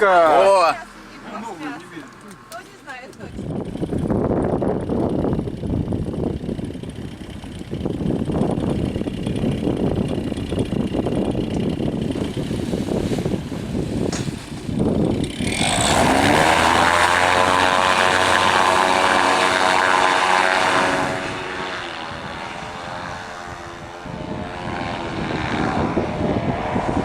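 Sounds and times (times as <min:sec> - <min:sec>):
paramotor engine and propeller revving: 0:00.0 - 0:27.0.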